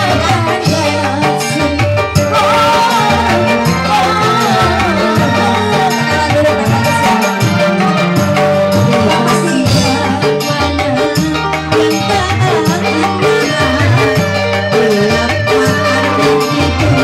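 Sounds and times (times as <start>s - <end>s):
hand drum rhythm: 0.0s - 17.0s
live band music: 0.0s - 17.0s.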